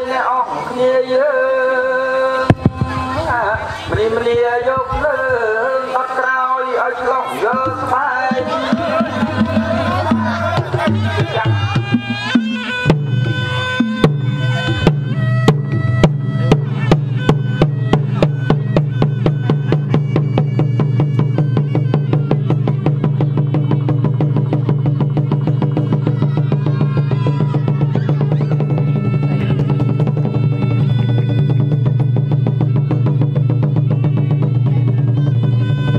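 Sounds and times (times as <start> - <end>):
drum and mallet strokes: 2.4 - 5.3, 7.6 - 35.9.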